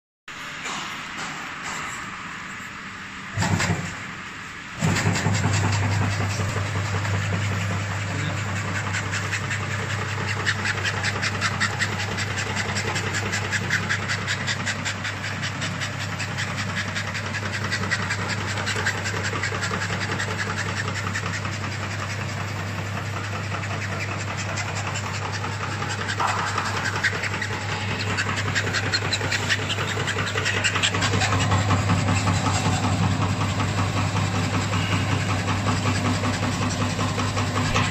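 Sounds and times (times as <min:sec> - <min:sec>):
motor hum: 0:02.7 - 0:37.9
cutting blades clattering: 0:04.8 - 0:37.9.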